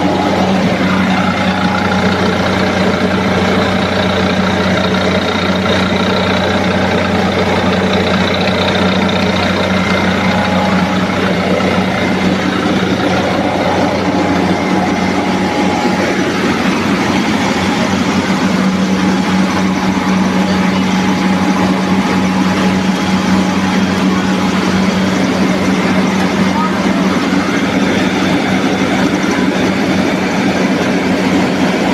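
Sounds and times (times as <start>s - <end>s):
rice milling machine humming: 0.0s - 31.9s.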